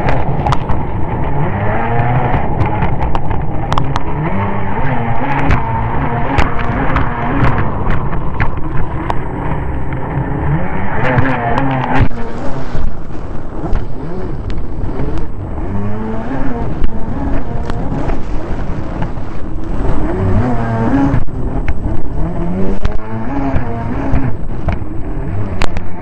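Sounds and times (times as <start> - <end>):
jet ski engine revving: 0.0 - 26.0
rumble of water and wind: 0.0 - 26.0.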